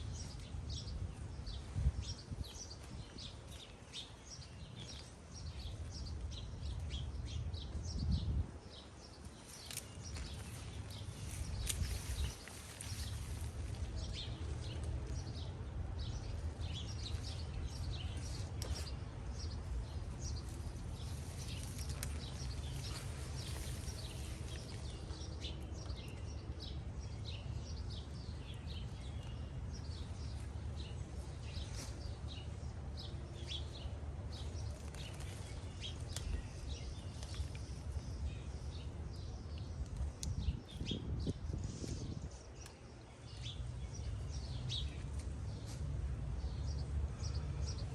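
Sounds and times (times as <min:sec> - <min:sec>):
small birds chirping: 0:00.0 - 0:47.9
steady low rumble: 0:09.5 - 0:47.9.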